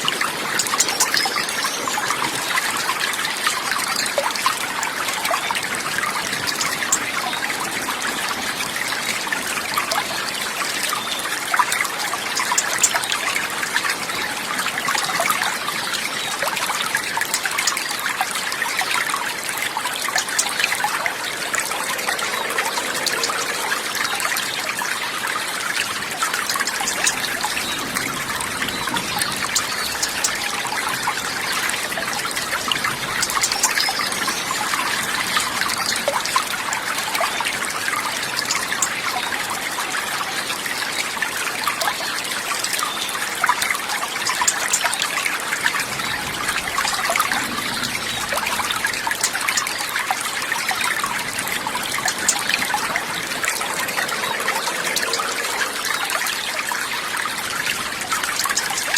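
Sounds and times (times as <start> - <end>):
water trickling and babbling: 0.0 - 58.9.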